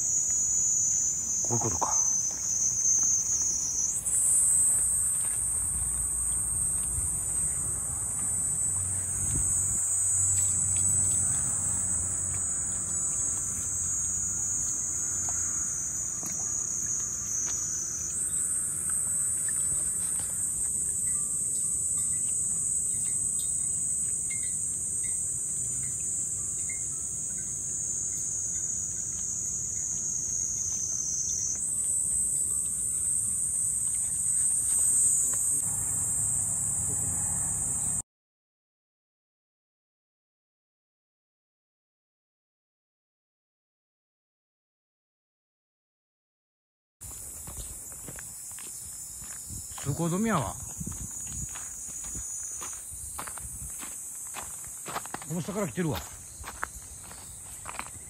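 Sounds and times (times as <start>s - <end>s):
insects buzzing shrilly: 0.0s - 38.0s, 47.0s - 58.0s.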